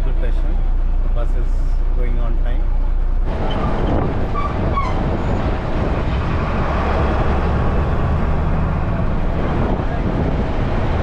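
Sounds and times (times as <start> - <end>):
bus engine: 0.0 - 11.0
road rumble: 0.0 - 11.0.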